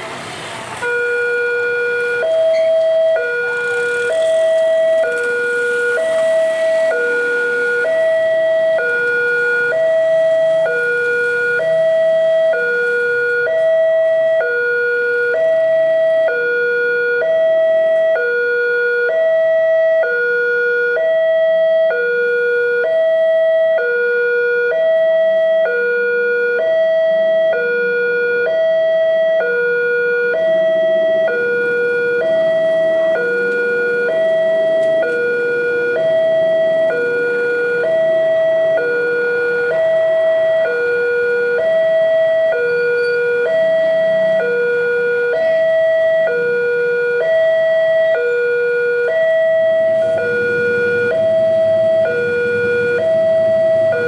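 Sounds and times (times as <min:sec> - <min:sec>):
level crossing two-tone alarm: 0:00.8 - 0:54.0.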